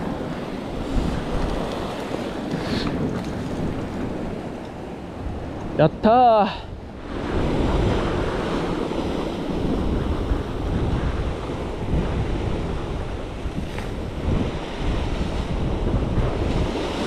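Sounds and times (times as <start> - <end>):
sea surf on rocky shore: 0.0 - 17.0
wind buffeting microphone: 0.0 - 17.0.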